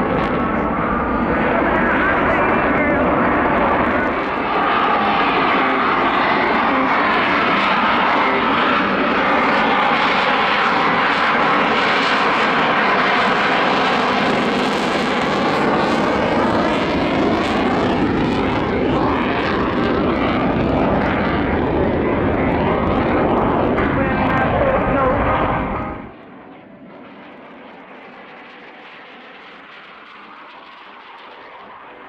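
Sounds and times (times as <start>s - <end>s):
jet aircraft engines roaring: 0.0s - 32.0s.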